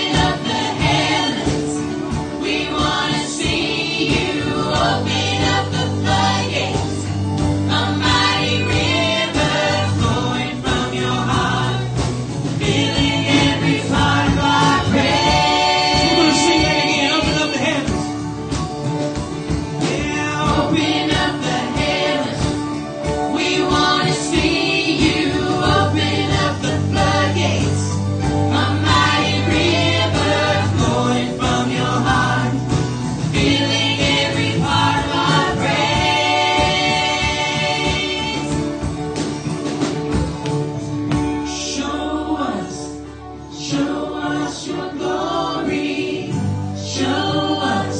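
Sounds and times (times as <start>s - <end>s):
people singing: 0.0s - 18.2s, 19.4s - 39.9s, 41.2s - 47.9s
worship band playing: 0.0s - 47.9s.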